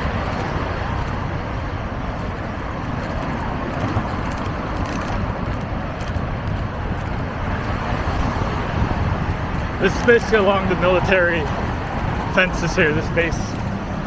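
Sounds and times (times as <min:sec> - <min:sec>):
road traffic of passing cars: 0:00.0 - 0:14.0.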